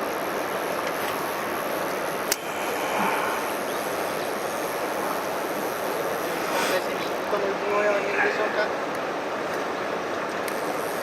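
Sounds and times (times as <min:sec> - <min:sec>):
mountain stream rushing: 0:00.1 - 0:11.0.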